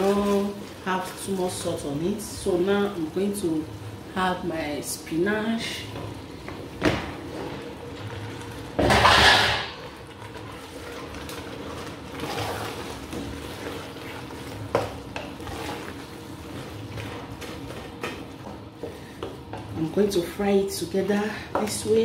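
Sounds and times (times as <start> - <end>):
wooden spoon stirring in a pot: 0.0 - 22.0.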